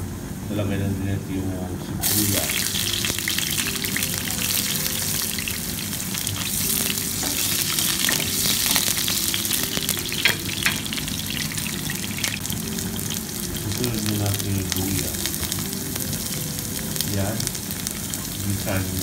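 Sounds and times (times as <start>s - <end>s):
garlic and onion sizzling in oil: 2.0s - 19.0s.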